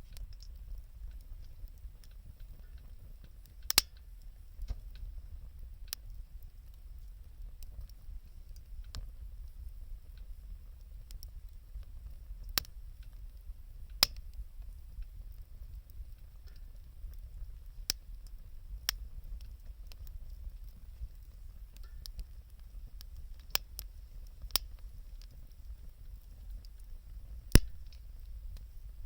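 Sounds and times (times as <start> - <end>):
bonfire crackling and popping: 0.0 - 29.0.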